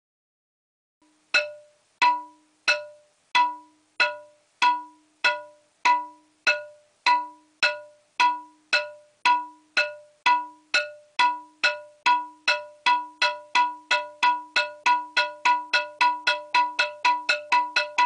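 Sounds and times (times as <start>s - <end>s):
wooden boards struck with stick: 1.4s - 18.0s.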